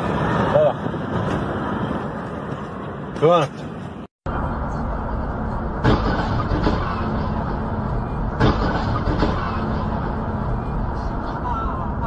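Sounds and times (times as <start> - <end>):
car driving noise: 0.0 - 12.0.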